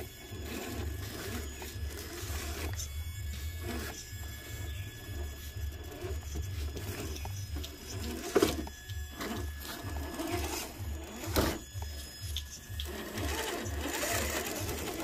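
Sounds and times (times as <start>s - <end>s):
toy car electric motor whirring: 0.0s - 15.0s.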